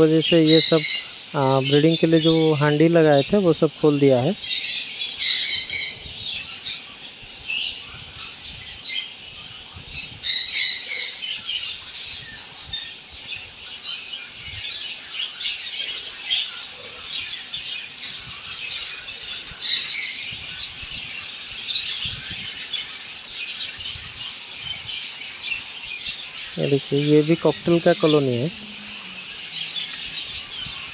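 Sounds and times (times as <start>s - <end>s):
budgerigars chattering and chirping: 0.0s - 30.9s
budgerigars squawking: 0.0s - 30.9s.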